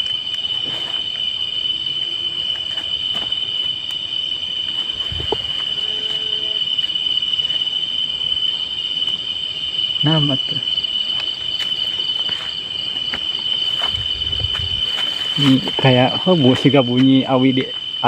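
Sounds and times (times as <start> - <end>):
night insects droning: 0.0 - 18.0.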